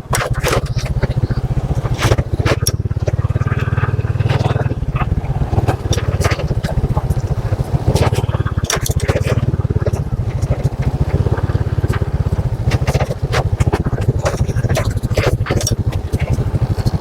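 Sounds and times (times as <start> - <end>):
irregular crackles: 0.0 - 17.0
small motorcycle engine running: 0.0 - 17.0.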